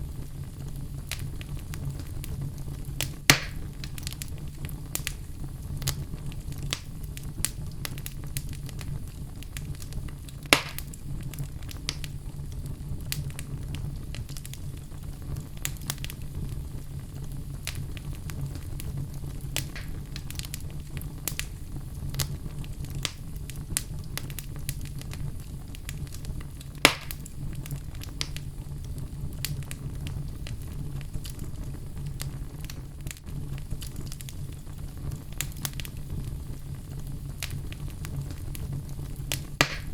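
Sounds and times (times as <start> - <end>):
fireplace fire crackling: 0.0 - 39.9
loud sharp fire pops: 0.1 - 39.9.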